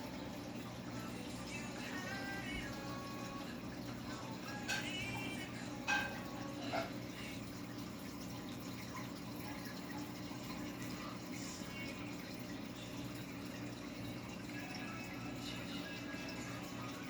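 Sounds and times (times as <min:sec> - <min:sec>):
aquarium filter hum: 0:00.0 - 0:17.0
water trickling and splashing: 0:00.0 - 0:17.0.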